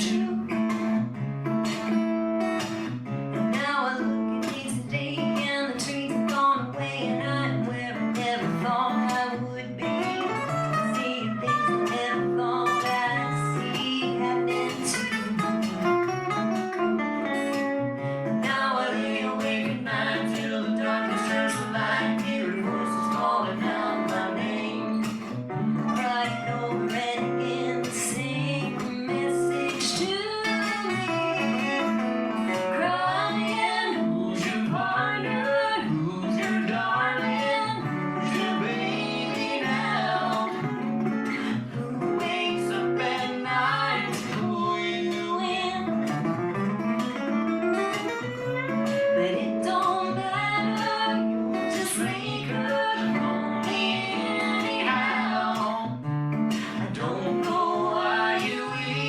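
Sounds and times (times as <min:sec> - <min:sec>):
person singing: 0:00.0 - 0:00.8, 0:03.5 - 0:16.0, 0:18.2 - 0:46.1, 0:47.8 - 0:59.0
acoustic guitar strumming: 0:00.0 - 0:59.0.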